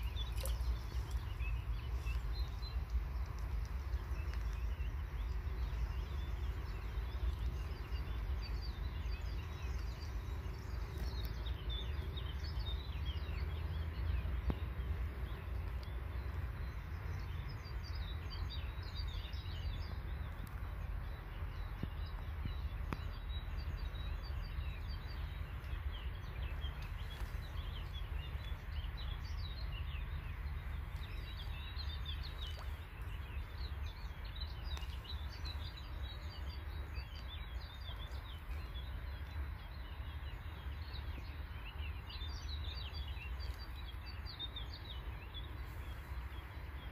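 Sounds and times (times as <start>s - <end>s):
small birds chirping: 0.0s - 46.9s
steady low rumble: 0.0s - 46.9s.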